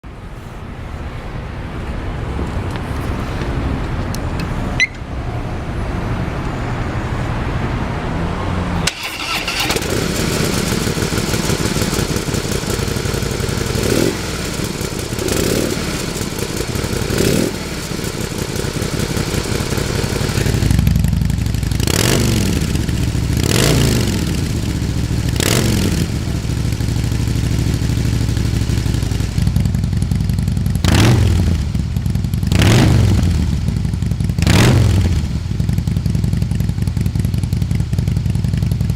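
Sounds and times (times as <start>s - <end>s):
motorcycle engine idling and revving: 7.3s - 38.9s.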